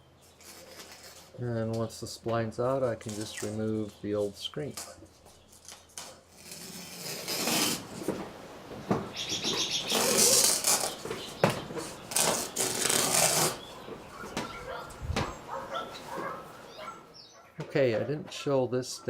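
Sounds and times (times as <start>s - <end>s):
screen mesh rustling and scraping: 0.1s - 18.5s.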